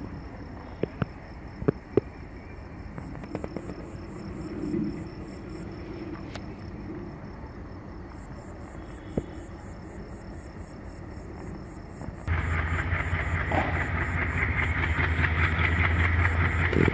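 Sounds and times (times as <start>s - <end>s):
crickets chirping: 0.0s - 16.9s
distant train rumble: 0.0s - 16.9s.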